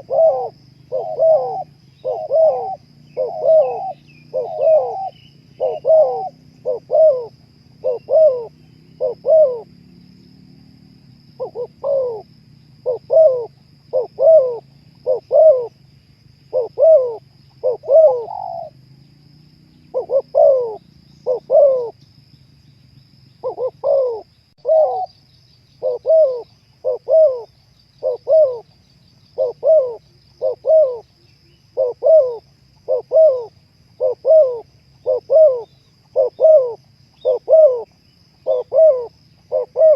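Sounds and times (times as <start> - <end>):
dove cooing: 0.0 - 9.8, 11.3 - 15.8, 16.4 - 18.8, 19.8 - 22.0, 23.4 - 25.2, 25.8 - 39.9.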